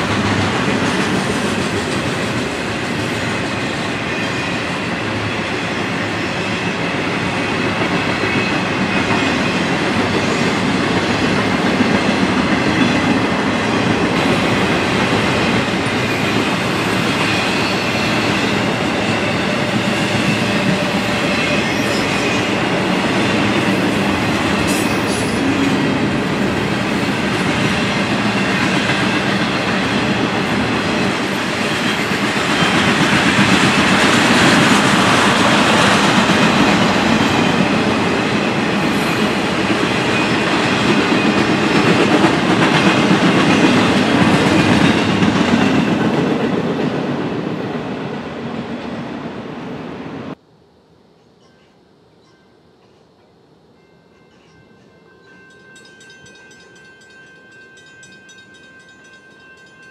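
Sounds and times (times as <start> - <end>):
freight train wheels rumbling on rail: 0.0 - 50.4.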